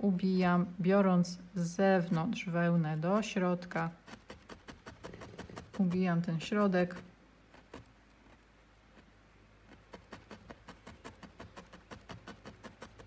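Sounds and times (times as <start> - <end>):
felting needle poking wool: 1.6 - 13.0.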